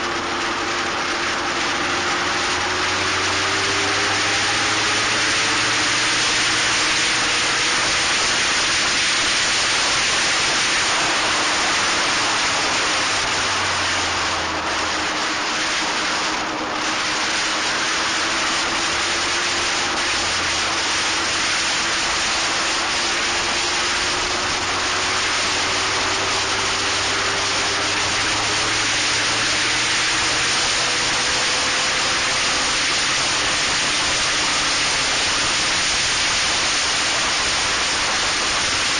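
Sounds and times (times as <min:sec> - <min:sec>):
wind rush over microphone: 0:00.0 - 0:38.9.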